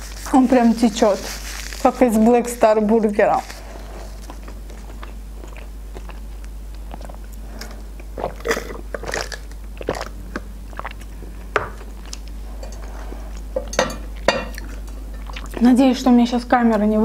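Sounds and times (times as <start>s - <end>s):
chewing with crunches: 0.0s - 15.7s.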